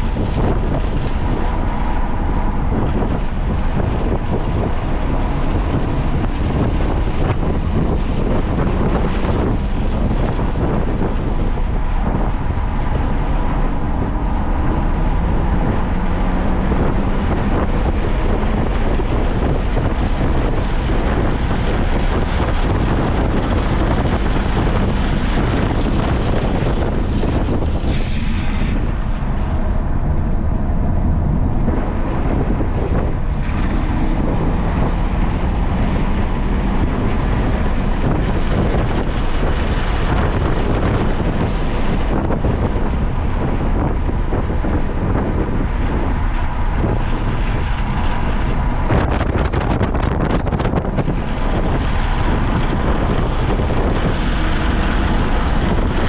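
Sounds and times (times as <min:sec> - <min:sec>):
car engine at speed: 0:00.0 - 0:56.0
wind on microphone: 0:00.0 - 0:56.0.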